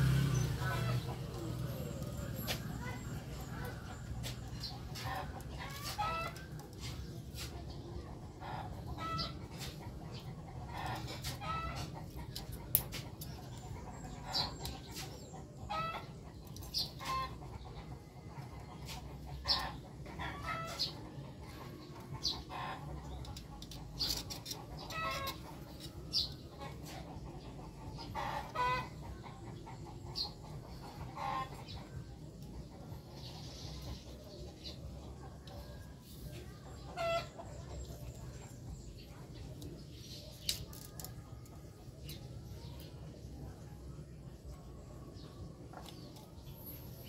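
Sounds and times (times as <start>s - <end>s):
chickens clucking: 0.0s - 47.0s.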